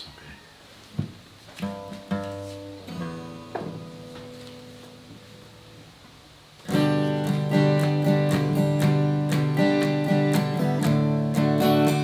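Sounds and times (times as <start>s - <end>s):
acoustic guitar picked chords: 1.6s - 12.0s
acoustic guitar strumming: 1.6s - 12.0s.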